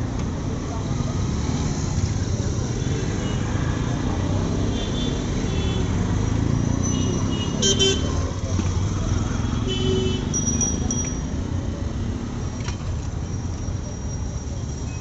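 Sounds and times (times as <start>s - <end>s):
street traffic rumbling: 0.0s - 15.0s.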